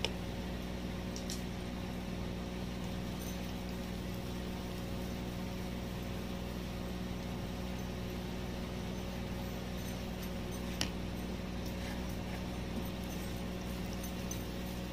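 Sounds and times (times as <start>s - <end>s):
constant hiss: 0.0s - 14.9s
low hum: 0.0s - 14.9s.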